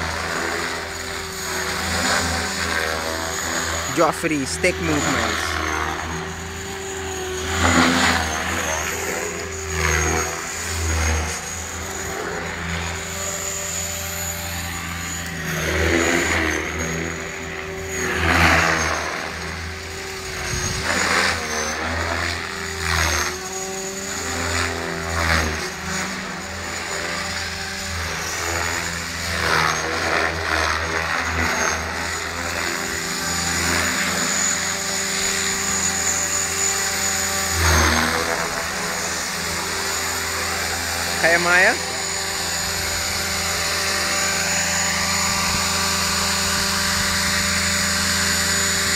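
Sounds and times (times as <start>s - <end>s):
helicopter motor whine: 0.0s - 48.9s
rotor blades: 0.0s - 48.9s.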